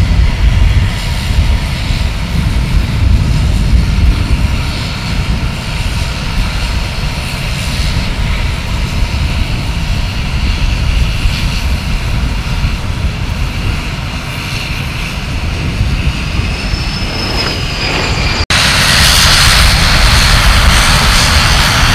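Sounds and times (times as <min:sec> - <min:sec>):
jet engines rumbling and whining: 0:00.0 - 0:21.9
jet taking off: 0:00.0 - 0:21.9.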